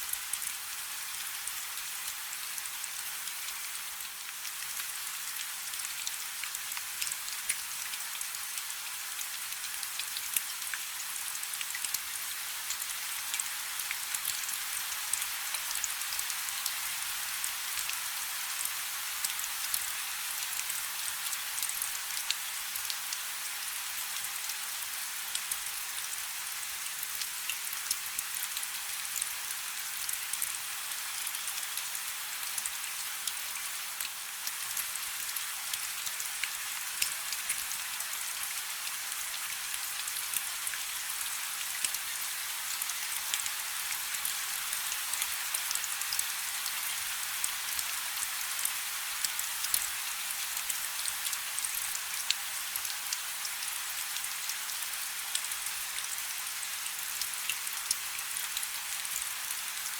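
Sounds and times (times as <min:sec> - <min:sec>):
rain falling on water: 0:00.0 - 0:59.9.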